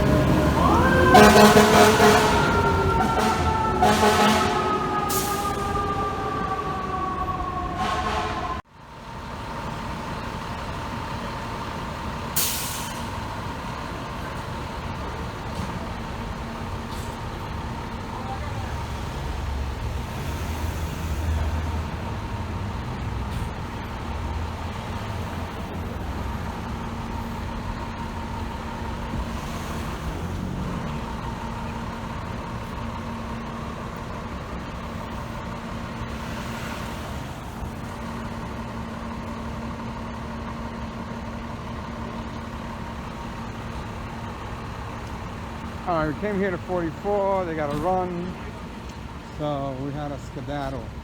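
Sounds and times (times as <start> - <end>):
heavy vehicle engine rumble: 0.0 - 51.0
street traffic: 0.0 - 51.0.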